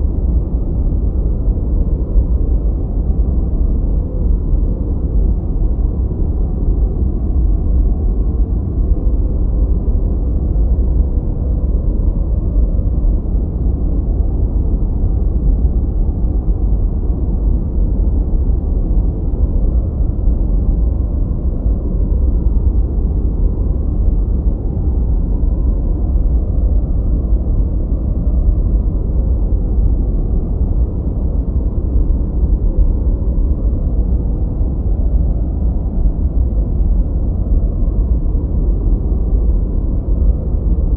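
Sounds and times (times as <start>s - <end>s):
deep muffled white noise: 0.0s - 40.9s.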